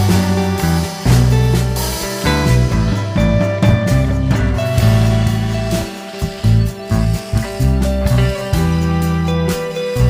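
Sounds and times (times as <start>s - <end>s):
guitar and bass music: 0.0s - 10.0s.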